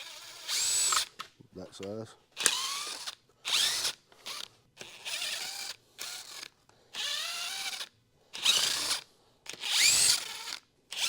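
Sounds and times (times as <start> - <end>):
power tool whirring: 0.0 - 1.2, 2.4 - 11.0.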